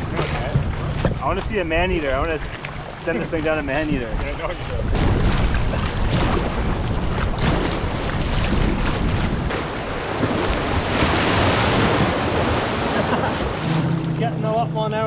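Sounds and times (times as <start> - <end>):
river water rushing and churning: 0.0 - 14.8
wind buffeting microphone: 0.0 - 15.0.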